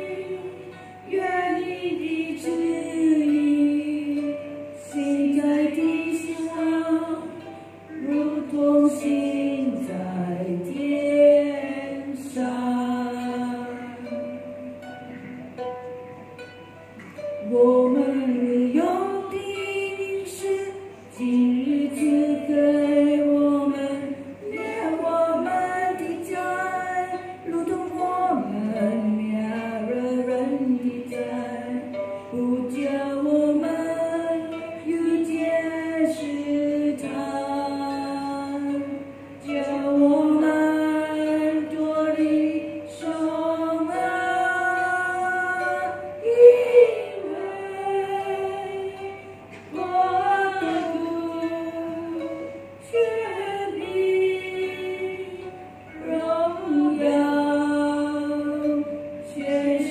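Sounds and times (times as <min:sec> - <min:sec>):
women singing worship song: 0:00.0 - 0:04.3, 0:04.9 - 0:14.0, 0:17.4 - 0:55.4, 0:56.0 - 0:59.9
plucked harp: 0:00.0 - 0:59.9.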